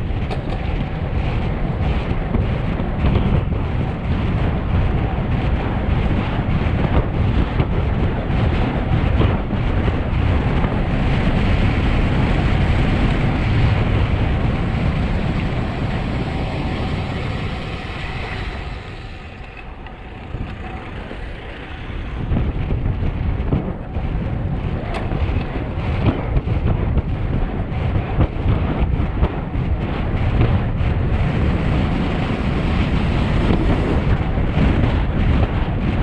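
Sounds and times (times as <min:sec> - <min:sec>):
tyre noise on asphalt: 0:00.0 - 0:36.0
wind rushing over microphone: 0:00.0 - 0:36.0.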